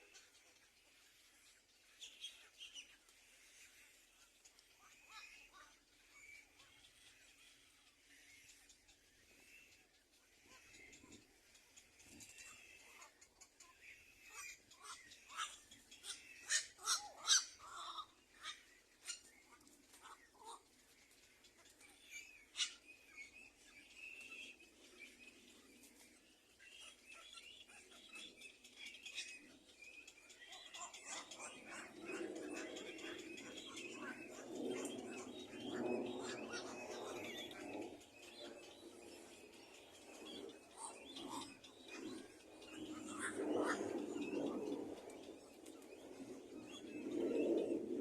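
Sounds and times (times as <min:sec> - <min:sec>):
faint bird chirps: 0:00.0 - 0:48.0.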